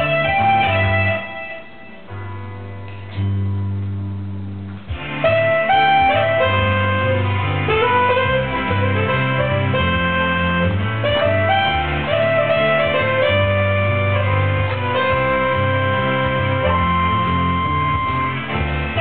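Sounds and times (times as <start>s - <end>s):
instrumental music: 0.0s - 19.0s.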